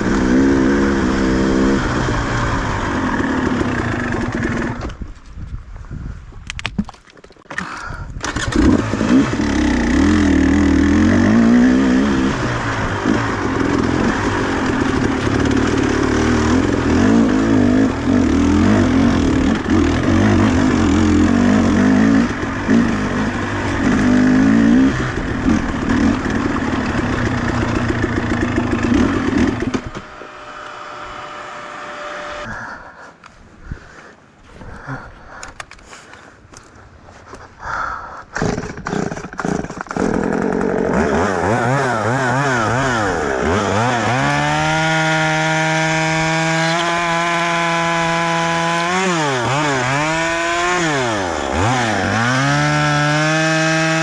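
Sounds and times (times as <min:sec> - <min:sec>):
small two-stroke engine revving: 0:00.0 - 0:05.0, 0:08.2 - 0:32.5, 0:38.4 - 0:54.0.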